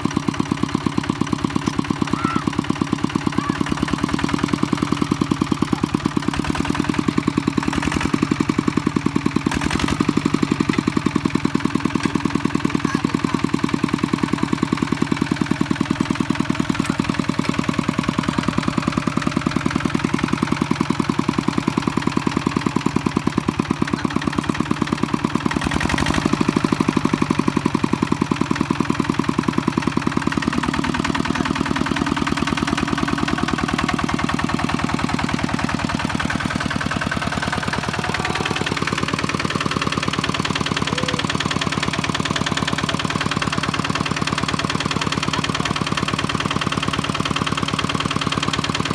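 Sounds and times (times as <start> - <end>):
diesel engine chugging: 0.0 - 48.9.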